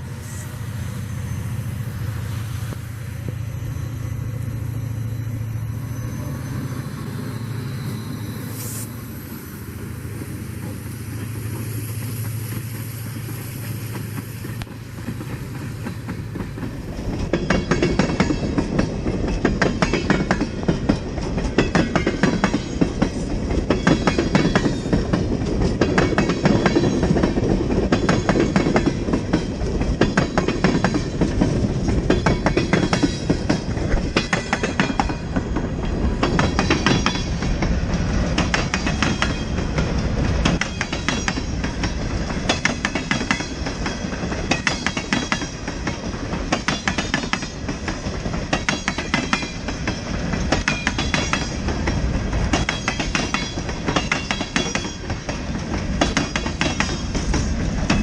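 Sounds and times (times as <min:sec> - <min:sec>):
freight train rumbling past: 0:00.0 - 0:58.0
train wheels clicking over rail joints: 0:09.7 - 0:58.0.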